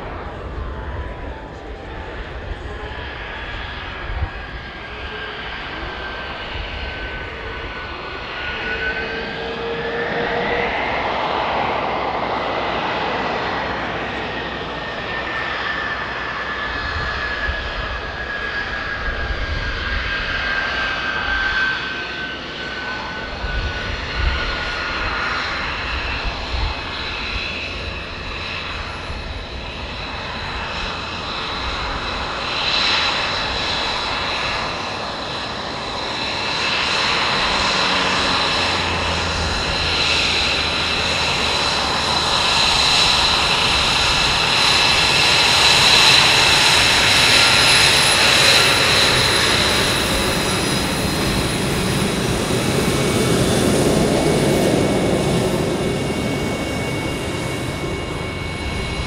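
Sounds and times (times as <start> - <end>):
jet engine roar with high whine: 0.0 - 59.0.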